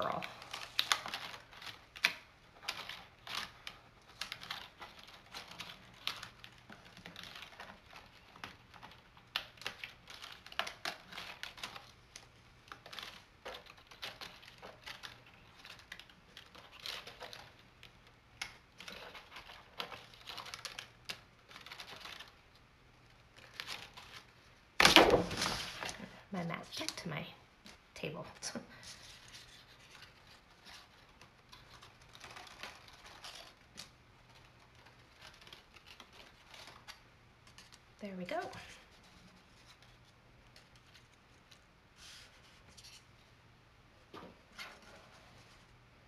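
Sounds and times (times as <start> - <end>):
sticky mat peeling from paper: 0.0 - 26.1, 27.7 - 43.2.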